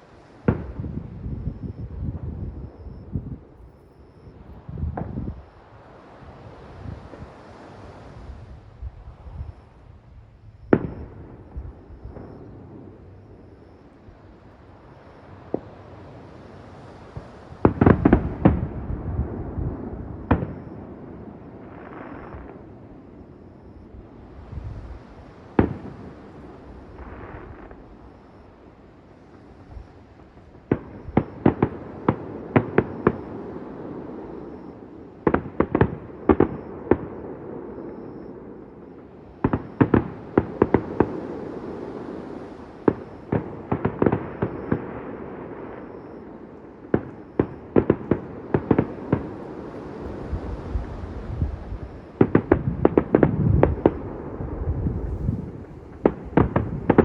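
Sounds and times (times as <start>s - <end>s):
fireworks bangs: 0.0s - 8.6s, 10.6s - 23.4s, 24.0s - 57.0s.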